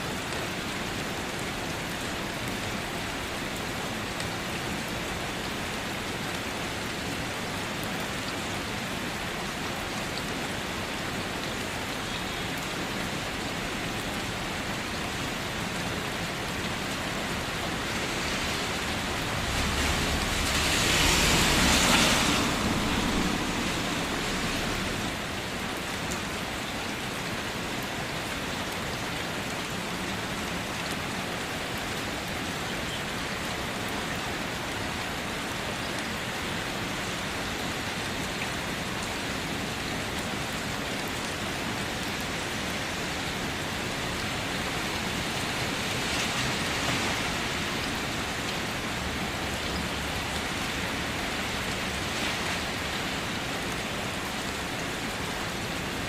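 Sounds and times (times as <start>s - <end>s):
rain on a car: 0.0s - 56.0s.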